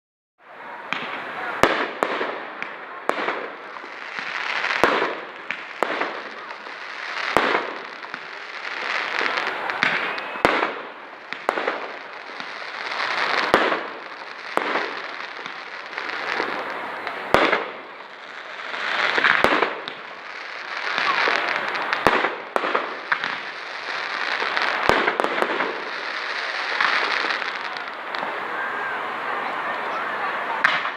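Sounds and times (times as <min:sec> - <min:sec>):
fireworks crackling: 0:00.4 - 0:30.9
fireworks bangs: 0:00.6 - 0:30.9.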